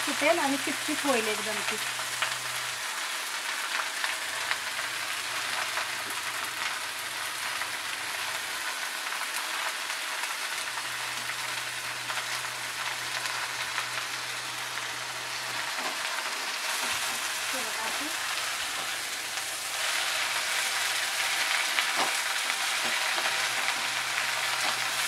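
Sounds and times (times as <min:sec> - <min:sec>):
leaves sizzling in hot oil: 0:00.0 - 0:25.0.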